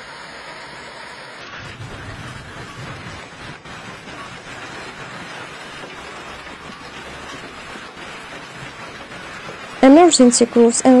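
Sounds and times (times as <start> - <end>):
hail and heavy rain on pavement: 1.6 - 11.0.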